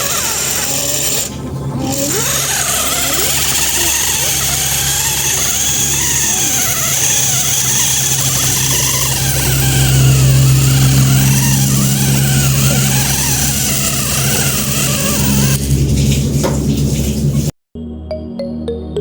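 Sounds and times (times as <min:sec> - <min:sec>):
toy tractor motor humming: 0:00.0 - 0:15.6.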